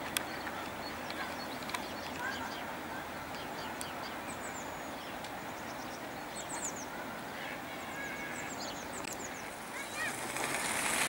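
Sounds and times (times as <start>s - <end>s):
background hiss: 0.0s - 11.0s
small birds chirping: 0.0s - 11.0s.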